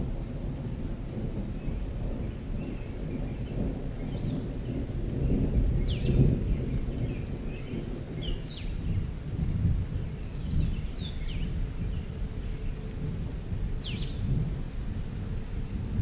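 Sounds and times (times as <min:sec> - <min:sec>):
low rolling rumble: 0:00.0 - 0:16.0.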